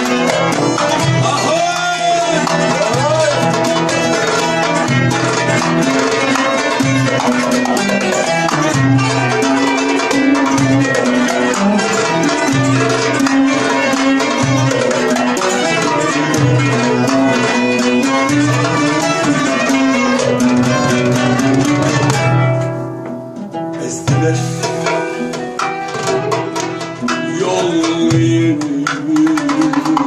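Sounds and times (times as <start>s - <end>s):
frame drum beat: 0.0s - 30.0s
plucked and bowed string melody: 0.0s - 30.0s.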